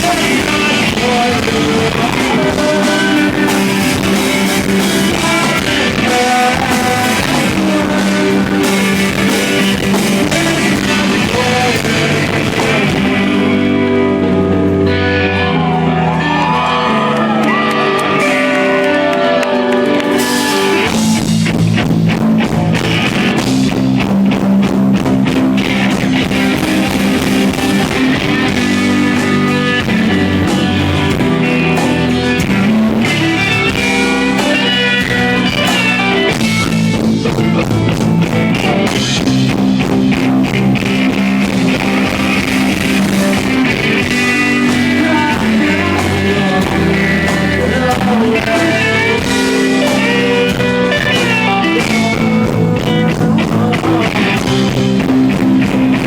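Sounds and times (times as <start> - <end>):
person singing: 0.0 - 21.5, 25.6 - 39.3, 40.4 - 56.0
bending guitar notes: 0.0 - 56.0
drums: 0.0 - 56.0
electric guitars: 0.0 - 56.0.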